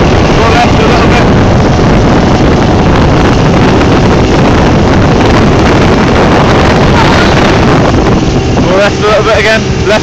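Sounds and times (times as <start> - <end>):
speedboat engine: 0.0 - 10.0
wind buffeting microphone: 0.0 - 10.0.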